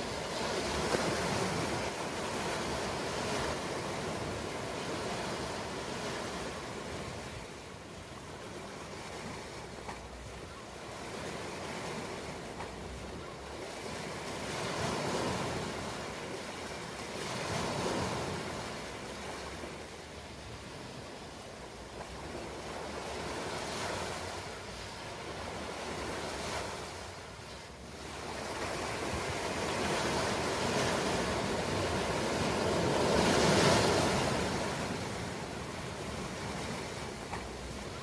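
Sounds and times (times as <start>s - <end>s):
ocean waves surging: 0.0s - 38.0s.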